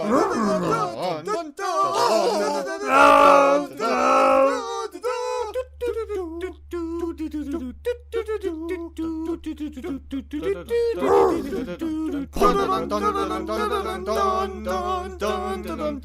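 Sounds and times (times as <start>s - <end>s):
choppy vocal noises: 0.0s - 1.1s, 1.9s - 16.0s
man singing loud notes: 2.8s - 16.0s.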